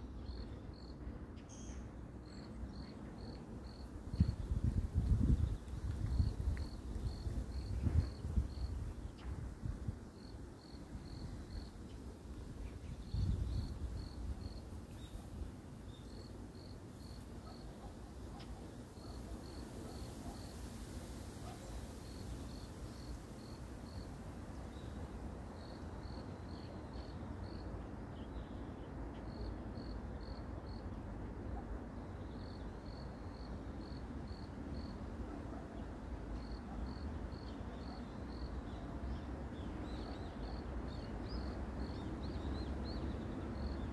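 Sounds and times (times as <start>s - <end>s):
cricket chirping: 0.2s - 12.0s, 12.9s - 35.1s, 36.4s - 39.2s, 39.8s - 43.8s.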